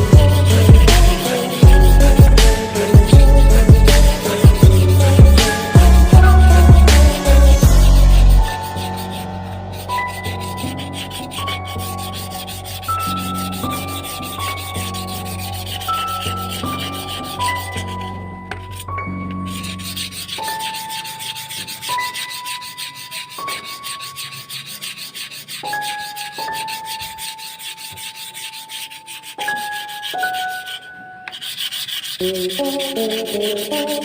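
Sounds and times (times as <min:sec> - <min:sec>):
abrasive rubbing on rusty steel: 0:00.0 - 0:34.0.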